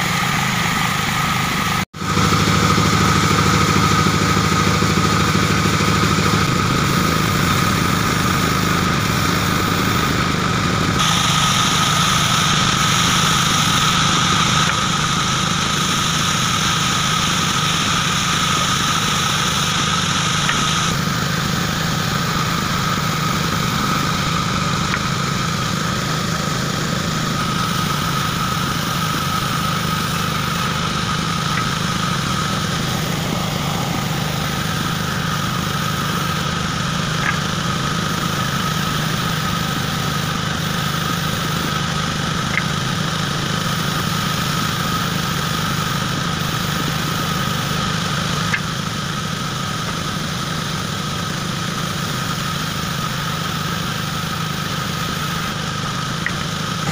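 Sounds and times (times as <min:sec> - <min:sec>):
band saw cutting wood: 0:00.0 - 0:56.9.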